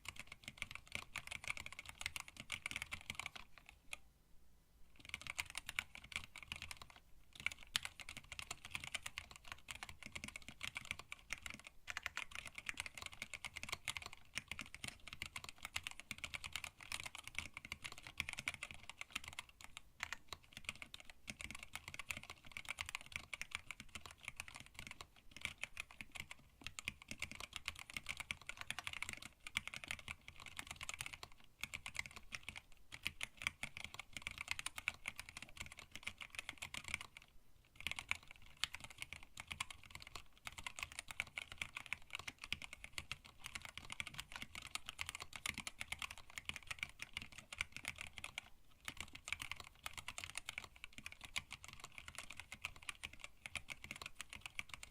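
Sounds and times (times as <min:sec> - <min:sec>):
rapid mechanical keyboard typing: 0:00.0 - 0:04.0, 0:05.0 - 0:54.9.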